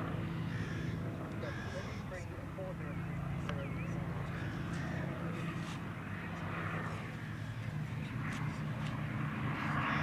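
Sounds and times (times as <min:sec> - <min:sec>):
aircraft engines droning overhead: 0:00.0 - 0:10.0.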